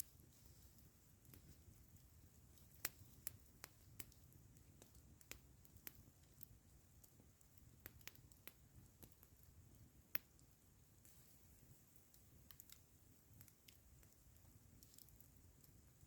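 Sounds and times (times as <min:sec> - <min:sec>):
campfire crackling: 0:00.0 - 0:16.0
fire popping and snapping: 0:00.0 - 0:16.0
low background noise: 0:00.0 - 0:16.0.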